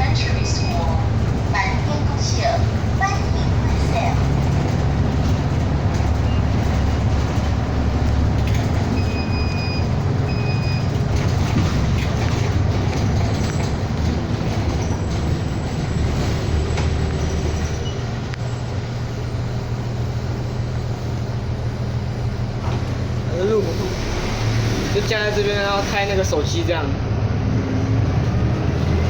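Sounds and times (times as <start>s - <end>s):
bus engine drone: 0.0s - 29.0s
road and rattle noise: 0.0s - 29.0s.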